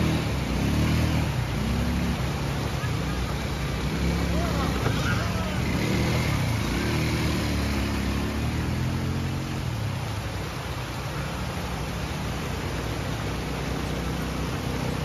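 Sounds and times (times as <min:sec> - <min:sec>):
quad engines running: 0:00.0 - 0:15.0.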